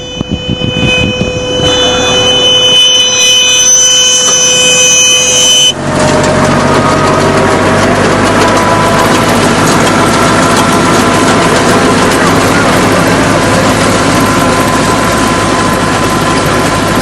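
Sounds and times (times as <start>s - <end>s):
baler machinery running: 0.0s - 17.0s
high machine whine: 0.0s - 17.0s.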